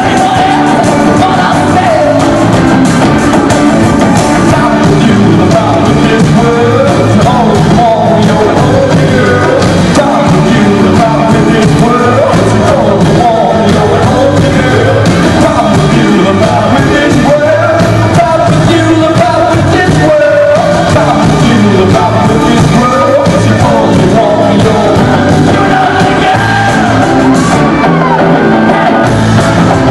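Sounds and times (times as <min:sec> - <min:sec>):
live rock band playing: 0:00.0 - 0:29.9
man singing: 0:00.0 - 0:29.9.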